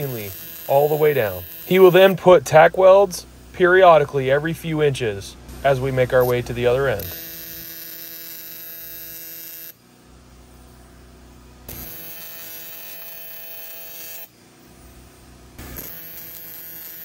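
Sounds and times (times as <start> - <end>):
welding arc buzzing: 0.0 - 17.0.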